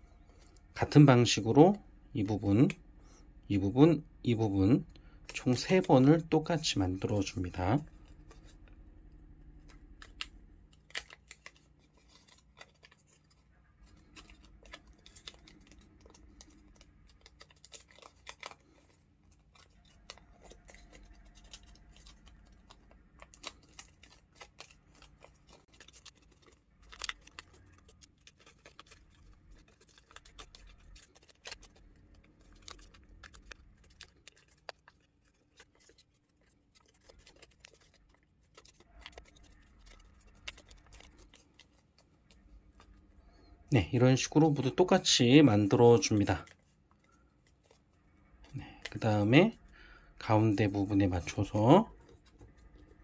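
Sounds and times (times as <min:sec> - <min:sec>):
paper folding crinkles: 0:00.0 - 0:53.0.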